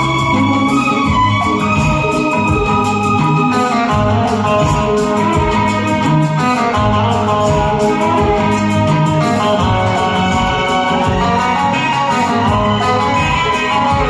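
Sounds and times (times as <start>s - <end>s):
instrumental backing track: 0.0s - 14.0s.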